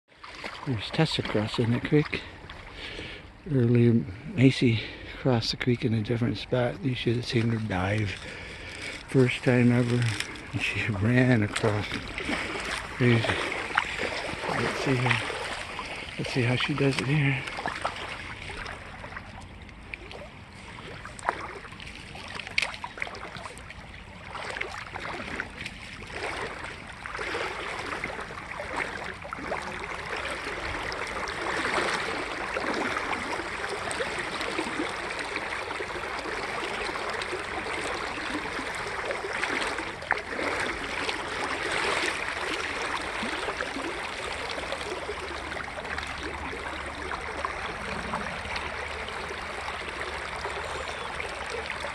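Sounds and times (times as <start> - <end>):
creek water rushing: 0.1 - 51.9.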